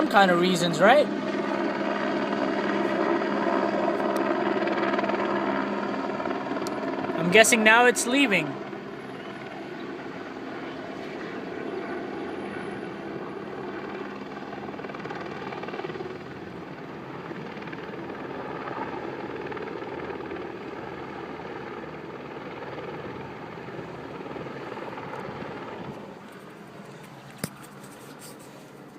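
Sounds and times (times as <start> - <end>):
helicopter rotor and engine drone: 0.0 - 28.9.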